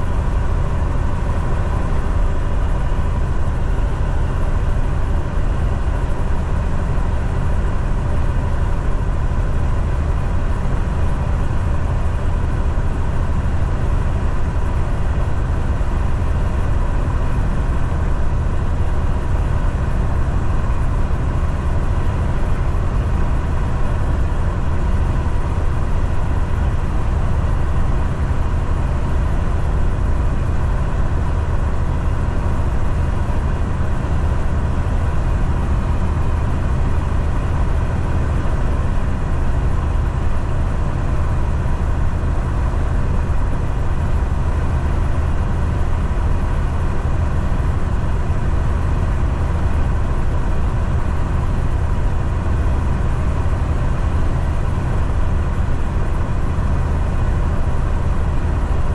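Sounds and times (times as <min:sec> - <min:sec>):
diesel truck engine drone: 0:00.0 - 0:58.9.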